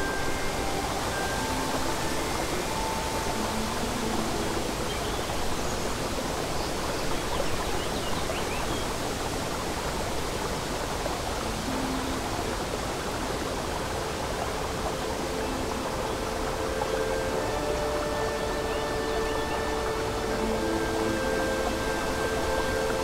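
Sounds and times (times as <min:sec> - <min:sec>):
babbling brook: 0:00.0 - 0:23.0
soft music: 0:00.0 - 0:23.0.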